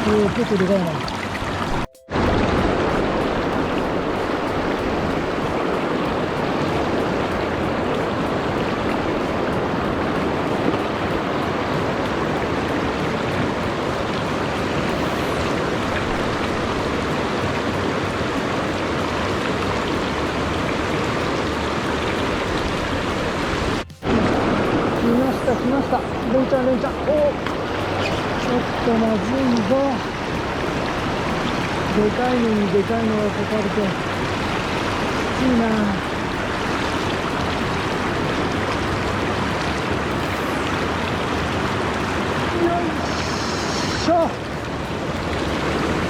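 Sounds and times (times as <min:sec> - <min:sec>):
river current rushing: 0:00.0 - 0:46.0.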